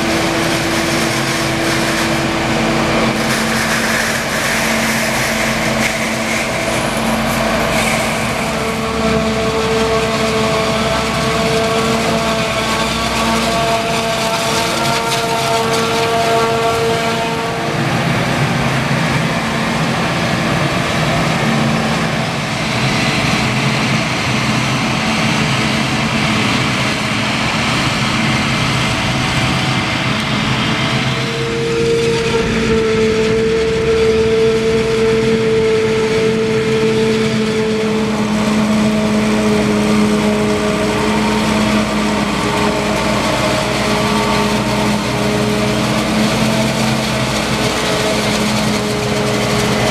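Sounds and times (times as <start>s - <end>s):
forage harvester engine whine: 0.0s - 49.9s
tractor engine running: 0.0s - 49.9s.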